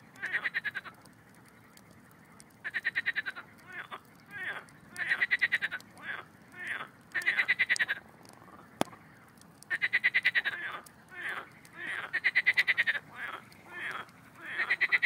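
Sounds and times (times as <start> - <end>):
frogs croaking in chorus: 0.0 - 15.0.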